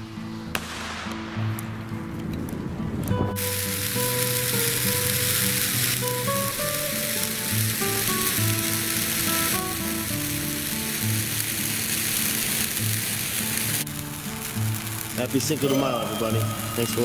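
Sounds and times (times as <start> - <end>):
slow background music: 0.0 - 17.0
sparklers sizzling hiss: 0.5 - 17.0.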